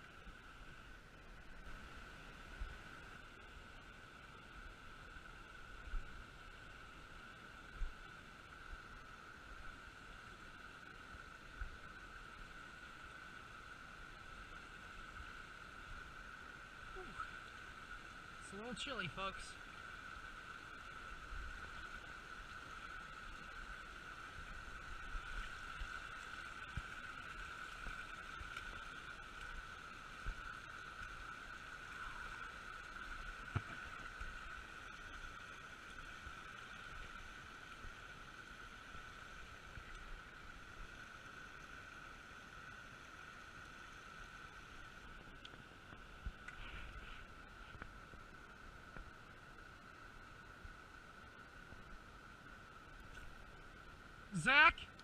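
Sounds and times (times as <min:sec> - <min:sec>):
moving water hiss: 0:00.0 - 0:55.0.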